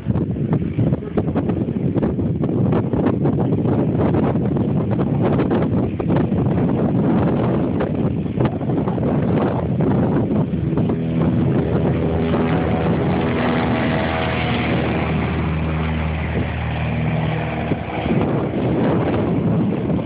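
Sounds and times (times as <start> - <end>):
model airplane engine: 0.0 - 20.0
wind buffeting microphone: 0.0 - 20.0.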